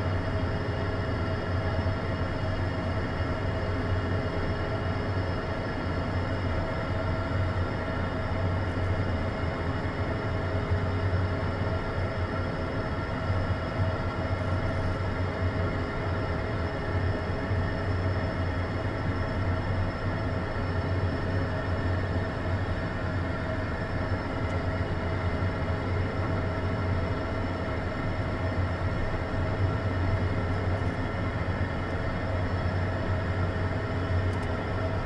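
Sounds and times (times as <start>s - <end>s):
turbine whine: 0.0s - 35.0s.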